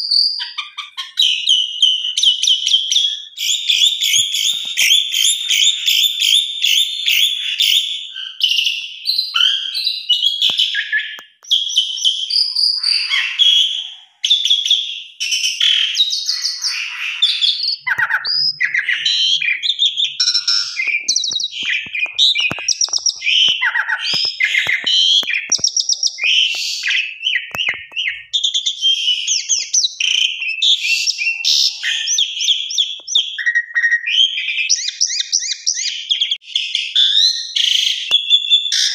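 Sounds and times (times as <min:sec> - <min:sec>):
starling singing: 0:00.1 - 0:38.9.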